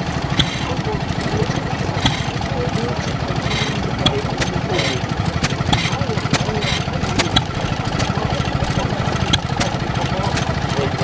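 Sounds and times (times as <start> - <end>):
stationary engine running: 0.0 - 11.0
sharp engine click: 0.3 - 11.0.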